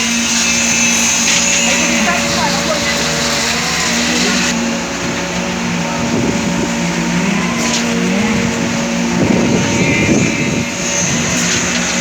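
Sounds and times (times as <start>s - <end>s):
constant hiss: 0.0s - 12.0s
construction machinery motor hum: 0.0s - 12.0s.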